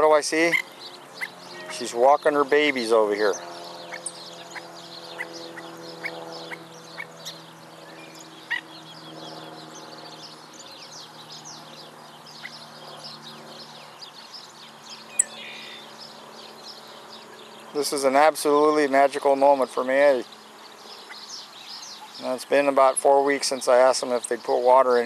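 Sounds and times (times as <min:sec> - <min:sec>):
high bird calls and chirps: 0:00.0 - 0:25.0
steady low hum: 0:00.0 - 0:25.0.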